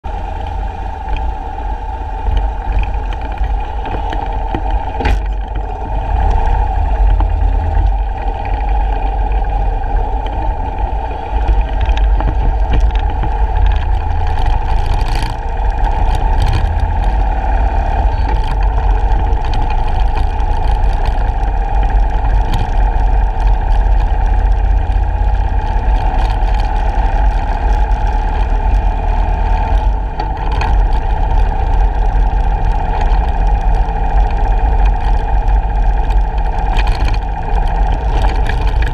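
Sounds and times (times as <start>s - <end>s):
motorcycle engine running: 0.0s - 38.9s
wind rumbling on microphone: 0.0s - 38.9s.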